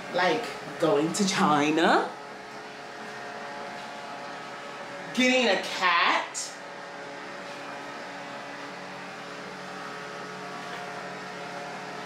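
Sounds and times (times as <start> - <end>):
mechanical hum with tones: 0.0 - 12.0.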